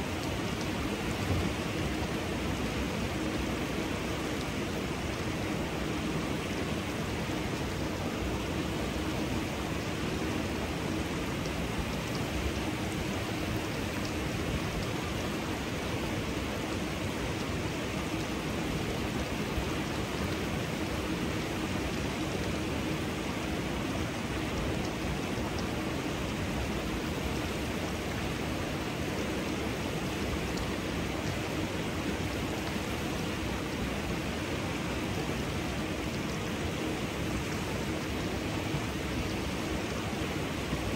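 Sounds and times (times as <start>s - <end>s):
water rushing down cascade: 0.0s - 40.9s.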